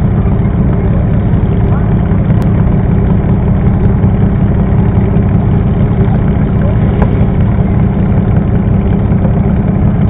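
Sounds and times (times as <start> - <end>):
tractor engine idling loudly: 0.0 - 10.0.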